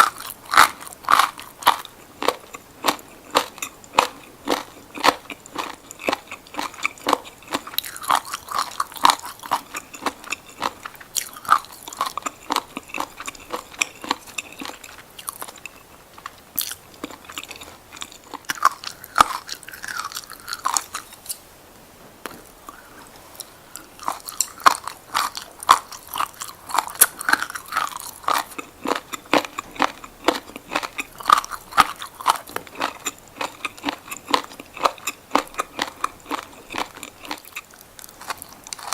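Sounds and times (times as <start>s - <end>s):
crunchy chewing: 0.0s - 21.4s, 22.3s - 38.9s.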